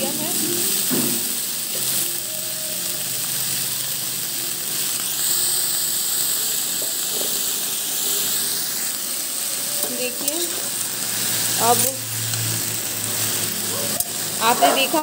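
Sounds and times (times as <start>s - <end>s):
pumpkin sizzling in hot oil: 0.0s - 15.0s.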